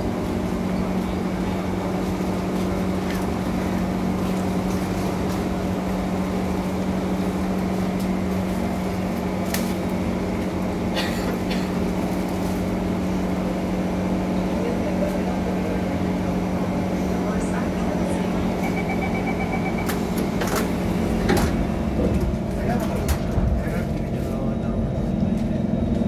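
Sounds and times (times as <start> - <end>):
train interior hum: 0.0 - 26.0.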